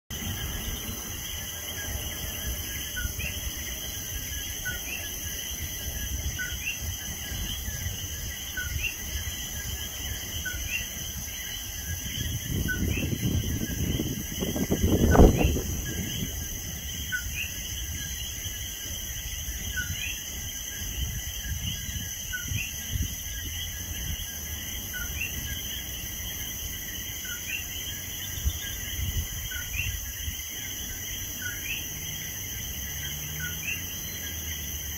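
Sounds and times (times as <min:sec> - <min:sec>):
shrill insect chorus: 0:00.1 - 0:34.9.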